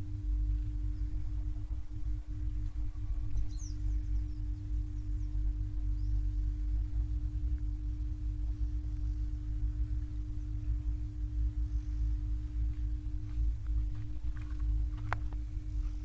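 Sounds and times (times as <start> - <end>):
low rumbling noise: 0.0 - 16.0
steady hum: 0.0 - 16.0.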